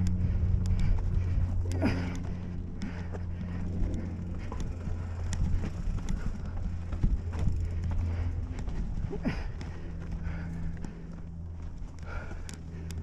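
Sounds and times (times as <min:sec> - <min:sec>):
bike clicks and knocks: 0:00.0 - 0:13.0.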